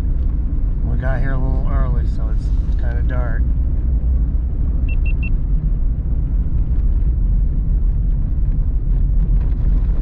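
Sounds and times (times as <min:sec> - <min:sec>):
truck engine and tyre rumble: 0:00.0 - 0:10.0.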